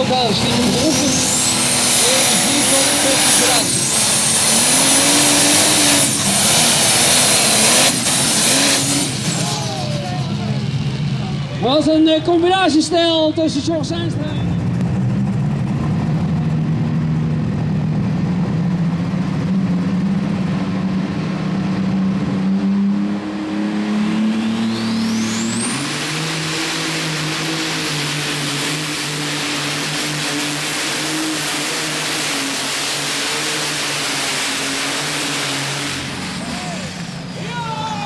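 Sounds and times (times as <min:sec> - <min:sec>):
high whine: 0:00.0 - 0:38.0
tractor engine running hard: 0:00.0 - 0:38.0.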